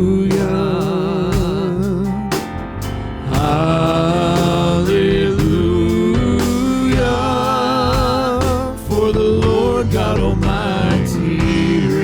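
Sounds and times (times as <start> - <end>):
gospel band music: 0.0 - 12.0.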